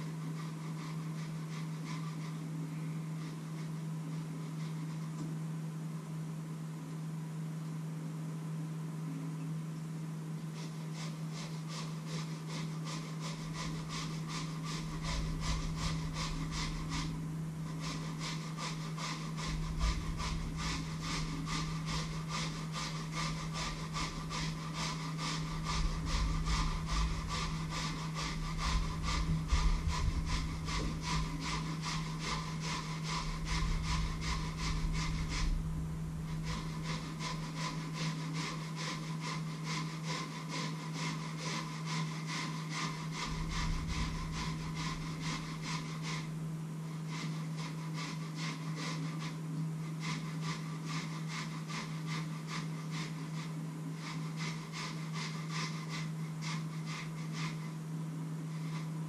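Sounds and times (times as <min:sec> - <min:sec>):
rhythmic scraping in a bowl: 0:00.0 - 0:05.6, 0:10.3 - 0:59.0
steady low hum: 0:00.0 - 0:59.0.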